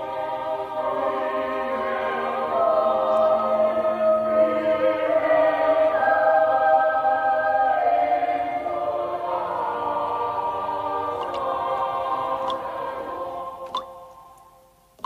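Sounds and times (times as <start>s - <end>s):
choir singing held chords: 0.0s - 14.9s.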